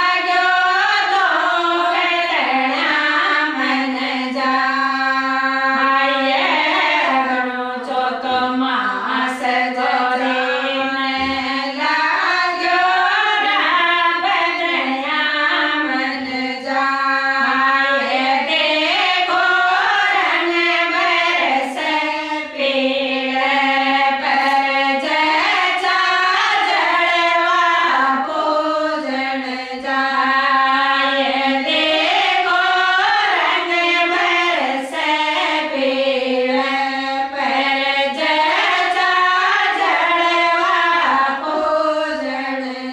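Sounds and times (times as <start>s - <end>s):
women singing folk song: 0.0s - 42.9s.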